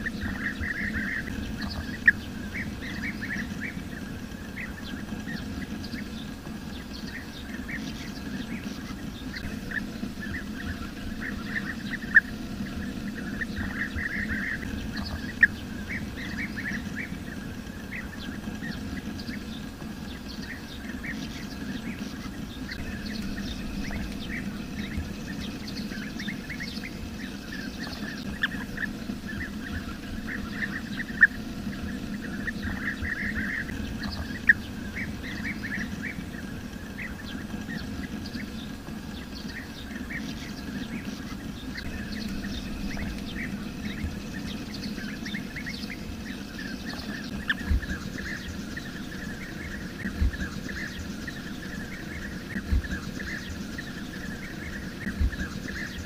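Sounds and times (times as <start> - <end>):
birds chirping: 0.0 - 56.0
low background rumble: 0.0 - 56.0.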